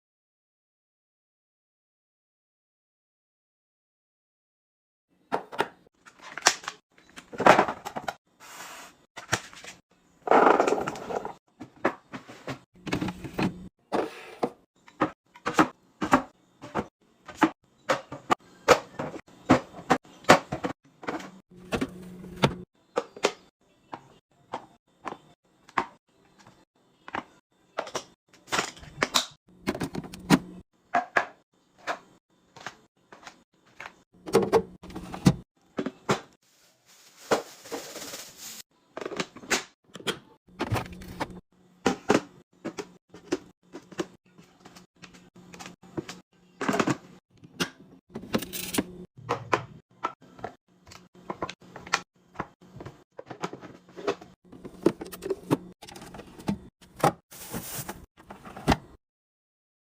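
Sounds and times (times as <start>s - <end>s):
containers being handled and set down: 9.2s - 26.0s, 27.1s - 36.3s, 36.9s - 59.0s.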